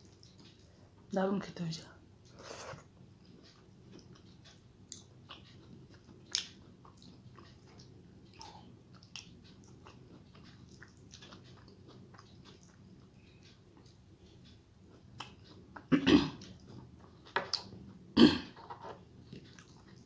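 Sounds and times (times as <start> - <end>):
person chewing wetly: 0.0 - 0.8, 3.2 - 18.0, 19.2 - 20.0.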